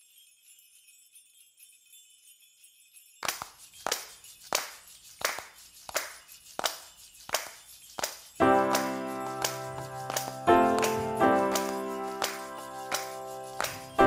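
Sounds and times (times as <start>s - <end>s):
high jingling shimmer: 0.0s - 14.0s.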